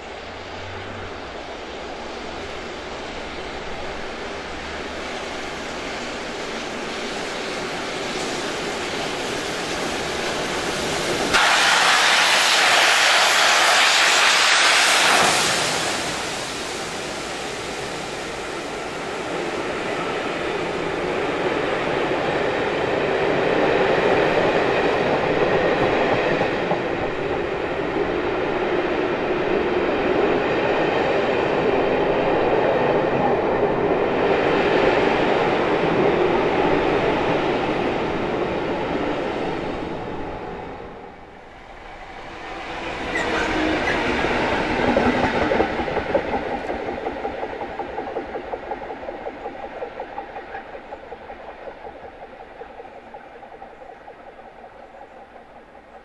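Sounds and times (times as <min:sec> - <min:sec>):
steam locomotive hissing rush: 0:00.0 - 0:56.0
train coaches rumble and clatter: 0:00.0 - 0:56.0.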